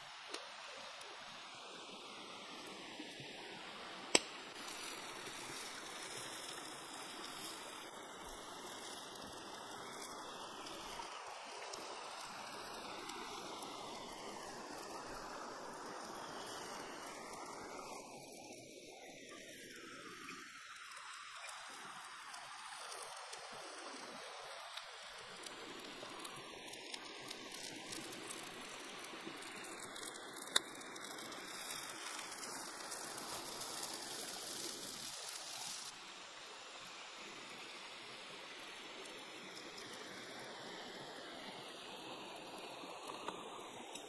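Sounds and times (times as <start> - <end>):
juices sizzling and bubbling: 0.0 - 44.0
small crackles and pop: 0.1 - 1.2, 4.0 - 36.0, 37.0 - 44.0.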